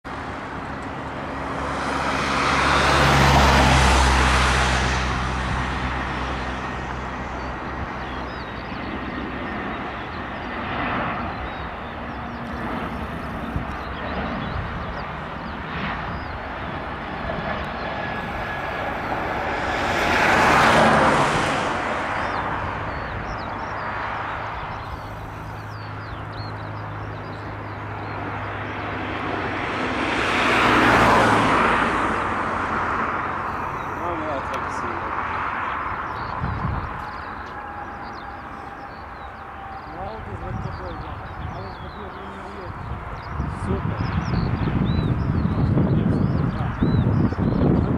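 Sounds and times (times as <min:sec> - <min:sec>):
jet engines rushing: 0:00.1 - 0:47.9
small birds chirping: 0:06.0 - 0:20.8, 0:21.8 - 0:31.3, 0:33.4 - 0:47.9.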